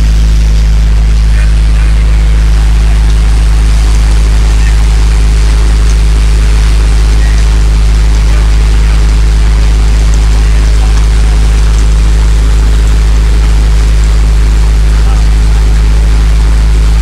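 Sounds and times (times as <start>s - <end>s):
thresher machine droning: 0.0s - 17.0s.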